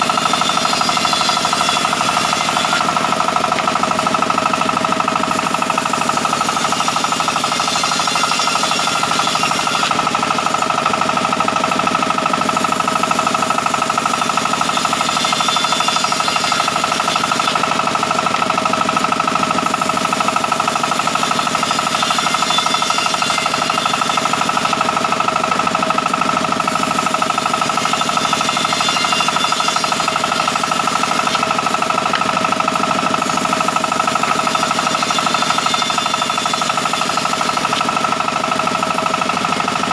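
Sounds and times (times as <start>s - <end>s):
sawmill saw whining and rattling: 0.0s - 39.9s.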